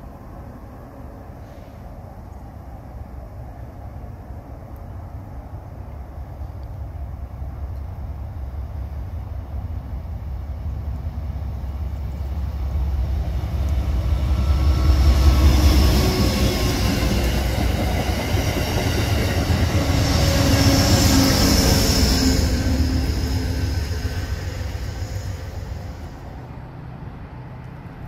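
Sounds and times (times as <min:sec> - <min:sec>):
diesel locomotive rumble: 0:00.0 - 0:28.0
train wheels on rails: 0:04.7 - 0:28.0.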